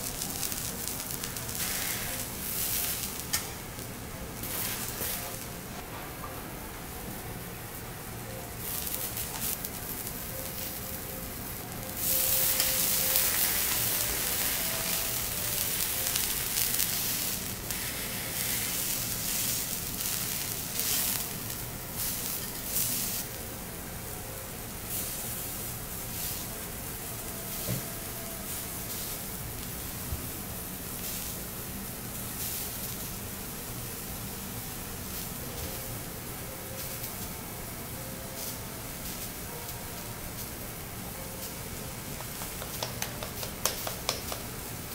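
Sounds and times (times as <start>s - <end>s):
eggplant sizzling on a griddle: 0.0s - 5.7s, 8.0s - 44.9s.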